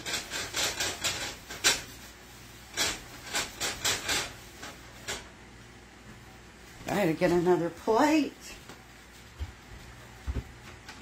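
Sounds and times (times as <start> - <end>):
paper towel wiping a frying pan: 0.0 - 10.9.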